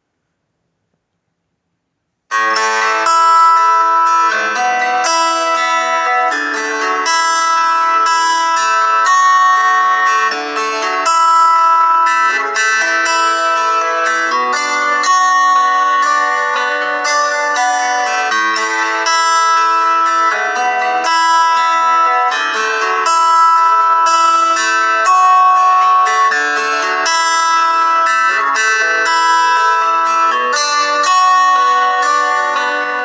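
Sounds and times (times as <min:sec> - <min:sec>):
phone ringtone plucked melody: 0:02.3 - 0:33.0.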